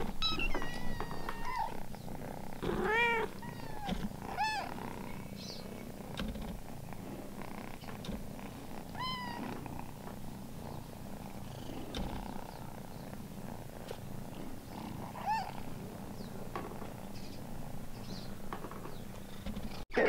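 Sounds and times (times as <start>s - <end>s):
cats purring: 0.0s - 20.0s.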